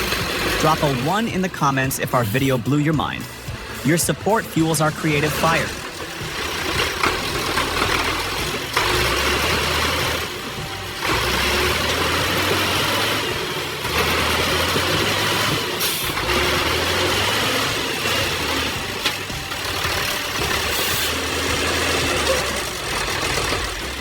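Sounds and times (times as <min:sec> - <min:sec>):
heavy machine engine running: 0:00.0 - 0:24.0
mechanical working noise: 0:00.0 - 0:24.0.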